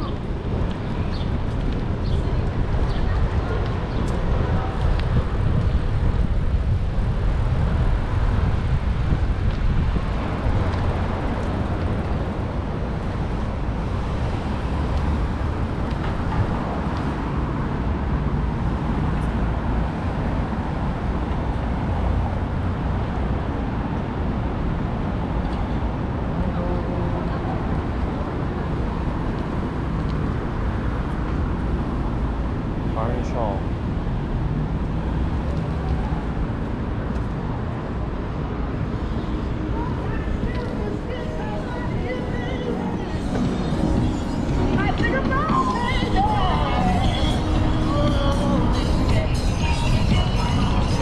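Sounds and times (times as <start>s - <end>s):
city traffic rumble: 0.0s - 51.0s.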